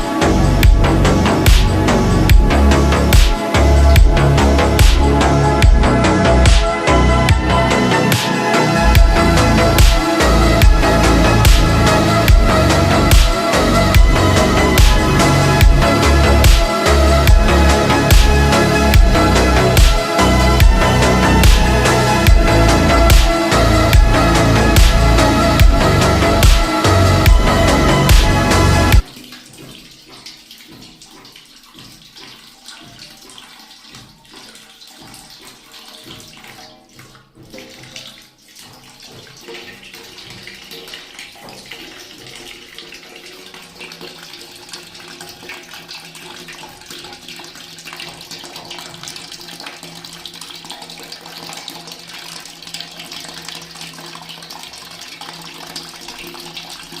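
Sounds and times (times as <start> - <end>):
water running from a tap: 0.0 - 57.0.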